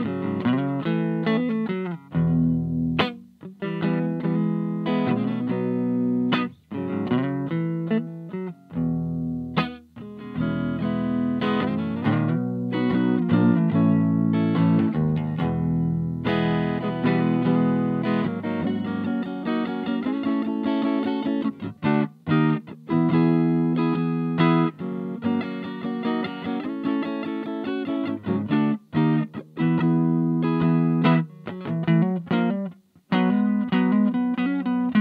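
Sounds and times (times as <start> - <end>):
electric guitar notes and chords: 0.0 - 35.0.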